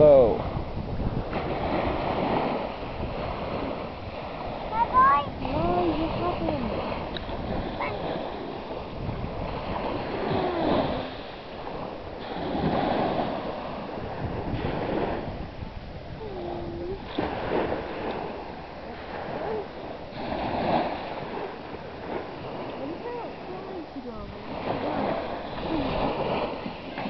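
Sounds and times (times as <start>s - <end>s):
small waves washing on beach: 0.0s - 27.0s
wind on microphone: 0.0s - 27.0s.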